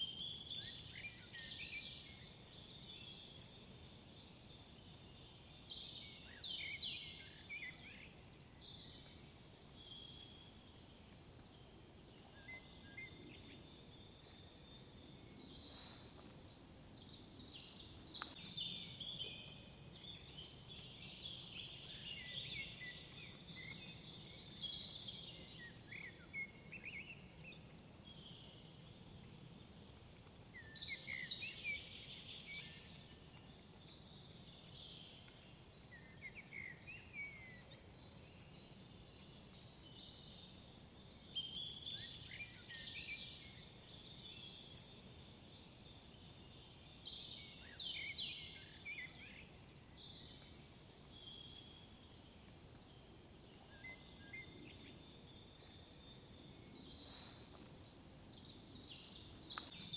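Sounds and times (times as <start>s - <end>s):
songbirds singing and trilling: 0.0s - 59.9s.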